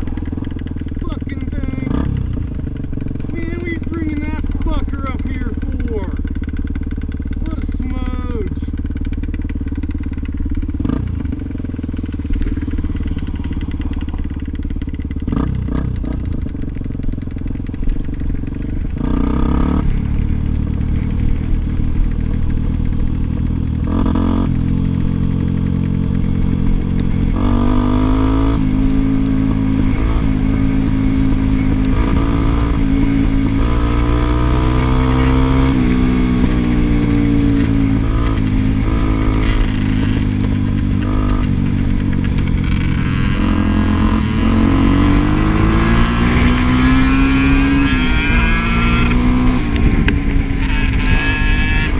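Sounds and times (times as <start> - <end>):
motorcycle engine under load: 0.0 - 51.9.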